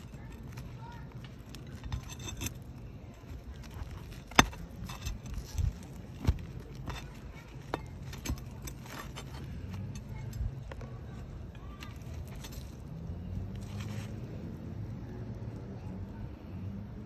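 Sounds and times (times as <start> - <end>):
pry bar scraping metal: 0.0 - 14.2.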